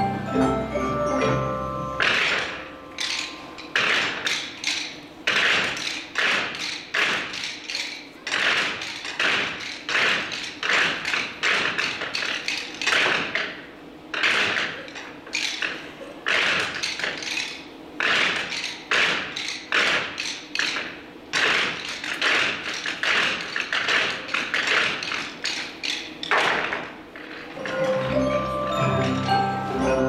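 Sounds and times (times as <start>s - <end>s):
sharp taps and slaps: 2.0s - 27.4s.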